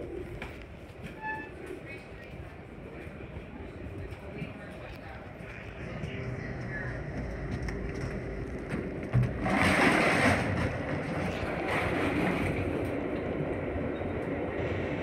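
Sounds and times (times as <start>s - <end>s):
rush of passing freight train: 0.0s - 15.0s
train car rumbling on track: 0.0s - 15.0s.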